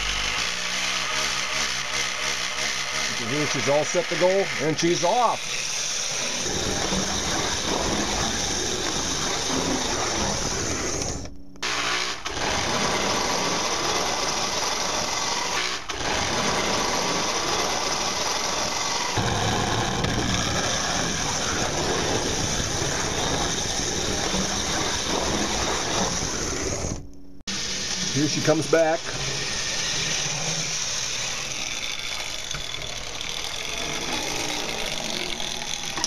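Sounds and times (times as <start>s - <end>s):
toy train motor whirring and rattling: 0.0s - 36.0s.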